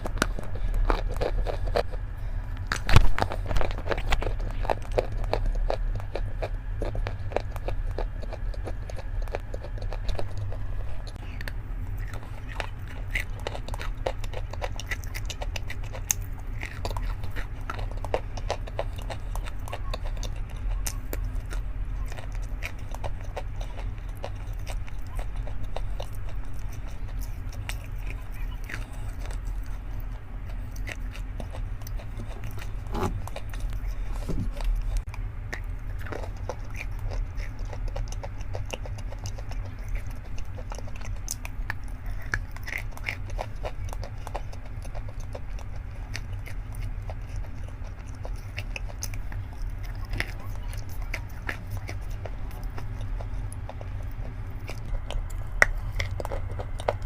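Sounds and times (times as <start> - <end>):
person chewing and crunching: 0.0 - 57.0
steady low hum: 0.0 - 57.0.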